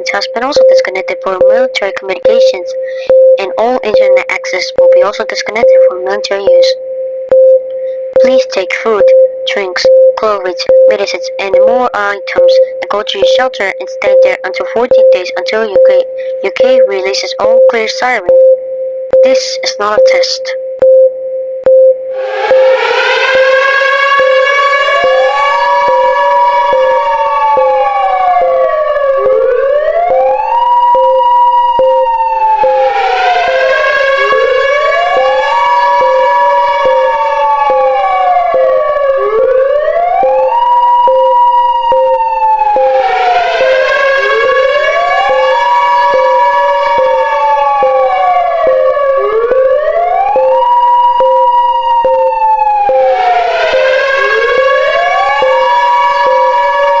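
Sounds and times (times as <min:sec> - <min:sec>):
air-raid siren wailing: 0:00.0 - 0:20.5, 0:21.3 - 0:57.0
slower siren wail: 0:00.0 - 0:57.0
steady siren tone: 0:00.0 - 0:57.0.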